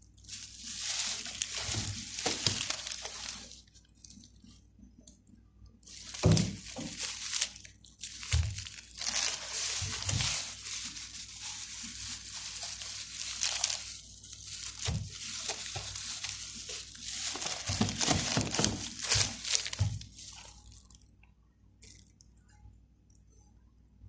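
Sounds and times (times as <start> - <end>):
packaging rustling and crinkling: 0.0 - 4.7, 5.8 - 21.1.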